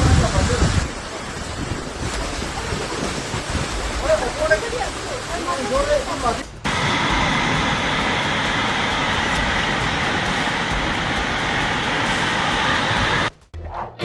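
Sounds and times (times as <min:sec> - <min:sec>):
floodwater rushing: 0:00.0 - 0:13.3.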